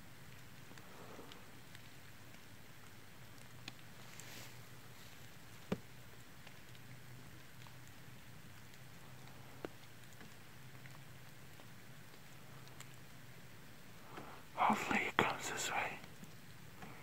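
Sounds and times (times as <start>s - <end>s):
faint steady hiss: 0.0s - 17.0s
small scattered ticks: 0.0s - 17.0s.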